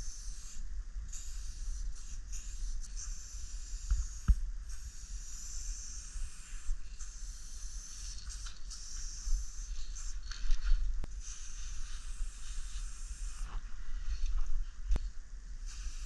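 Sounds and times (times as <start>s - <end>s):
spray paint can hissing: 0.0s - 10.4s, 11.2s - 13.5s, 15.6s - 16.0s.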